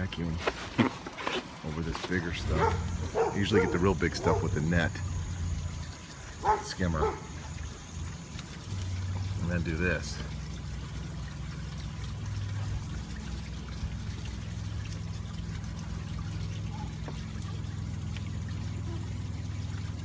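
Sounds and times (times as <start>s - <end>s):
water draining through hose: 0.0s - 20.0s.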